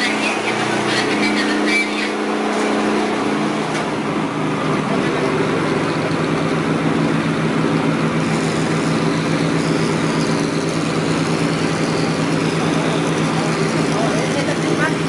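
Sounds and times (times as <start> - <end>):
large engine humming steadily: 0.0 - 15.0.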